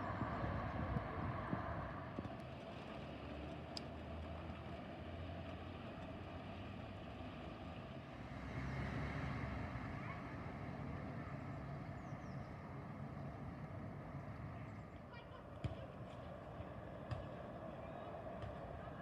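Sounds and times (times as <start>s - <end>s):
street traffic noise: 0.0s - 19.0s
vehicle engine: 0.0s - 19.0s.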